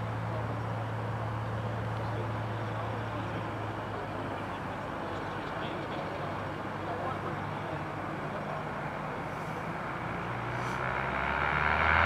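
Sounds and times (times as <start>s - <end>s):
distant propeller plane droning: 0.0s - 12.0s.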